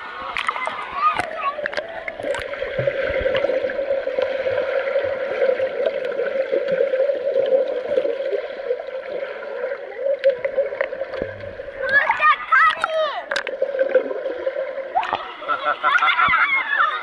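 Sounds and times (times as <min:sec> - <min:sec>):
underwater bubbling and churning: 0:00.0 - 0:17.0.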